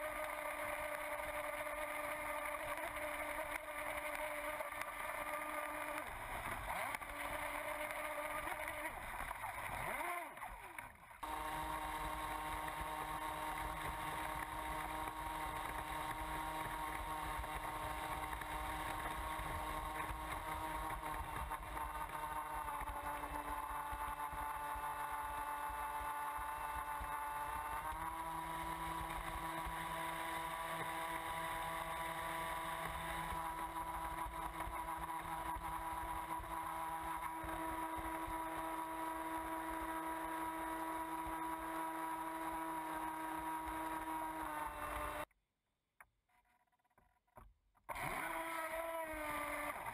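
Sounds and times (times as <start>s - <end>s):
model boat motor whine: 0.0s - 45.3s, 47.9s - 49.9s.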